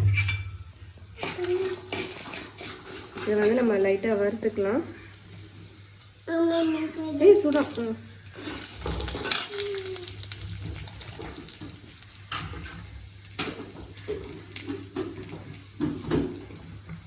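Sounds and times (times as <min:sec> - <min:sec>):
lentils sizzling in hot oil: 0:00.6 - 0:17.0.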